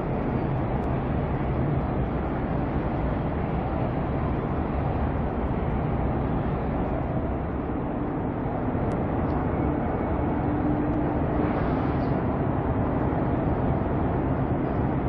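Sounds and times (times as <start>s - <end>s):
faint steady hum: 0.0s - 15.0s
harbour noise: 0.0s - 15.0s.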